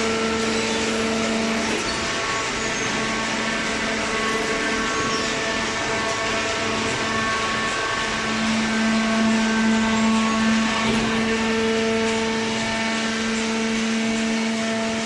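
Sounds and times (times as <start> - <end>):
baling machine humming and whining: 0.0 - 15.0.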